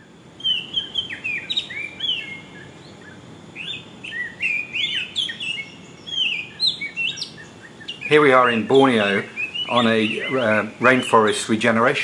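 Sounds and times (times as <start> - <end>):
low outdoor background: 0.0 - 12.0
birds chirping and calling: 0.4 - 12.0.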